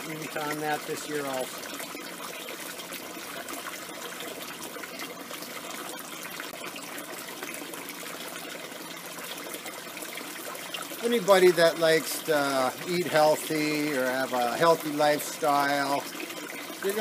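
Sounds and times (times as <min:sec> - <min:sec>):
water trickling through pipe: 0:00.0 - 0:17.0.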